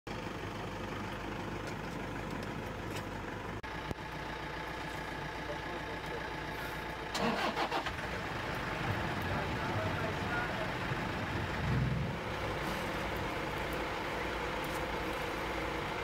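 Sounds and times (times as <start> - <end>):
vehicle engine idling: 0.1 - 16.0.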